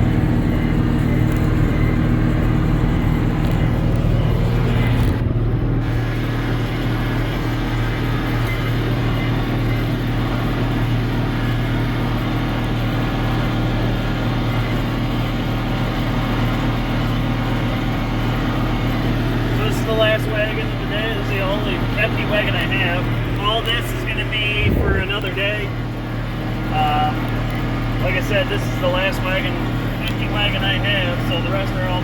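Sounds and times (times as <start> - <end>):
diesel tractor engine running: 0.0 - 32.0.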